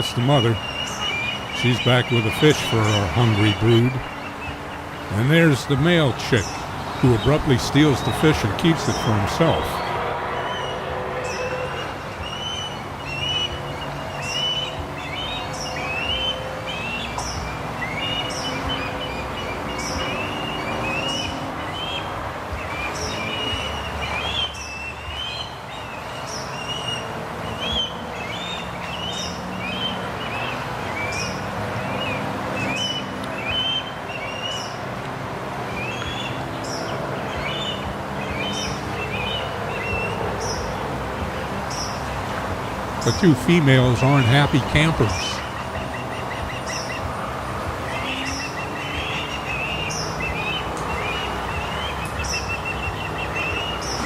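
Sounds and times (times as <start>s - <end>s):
bird chicks chirping: 0.0s - 54.0s.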